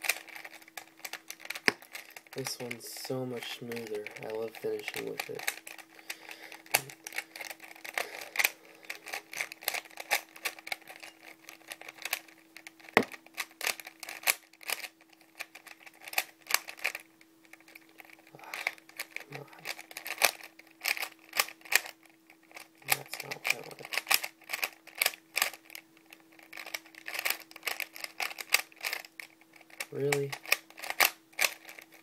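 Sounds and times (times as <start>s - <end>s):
faint steady hum: 0.0s - 32.0s
plastic puzzle clicking: 0.0s - 32.0s.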